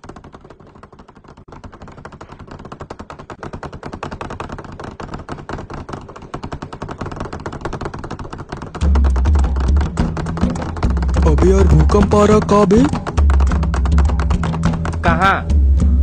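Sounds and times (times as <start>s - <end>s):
desk and bench rattling: 0.0s - 15.4s.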